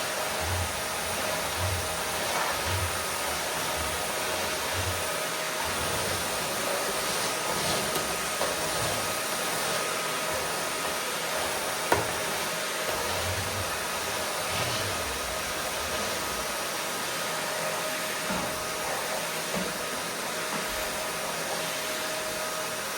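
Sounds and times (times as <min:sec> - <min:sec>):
vacuum cleaner motor running: 0:00.0 - 0:22.9.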